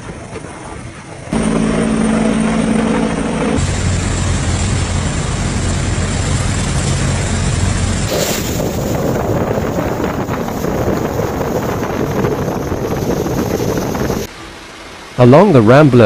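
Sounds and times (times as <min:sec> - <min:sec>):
wind buffeting microphone: 0:00.0 - 0:14.3
low engine hum: 0:00.0 - 0:14.9
floodwater rushing: 0:00.8 - 0:16.0.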